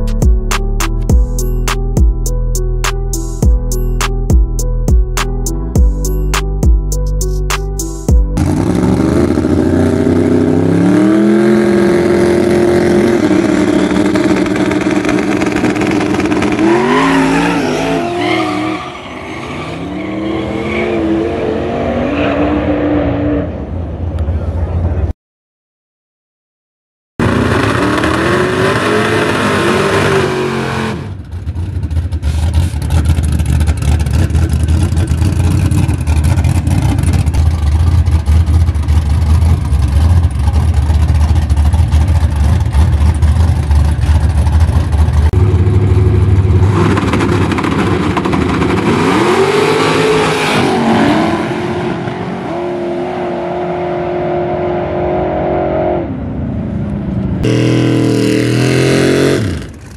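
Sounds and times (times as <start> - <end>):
drag race engines revving: 8.4 - 25.0, 27.2 - 59.9.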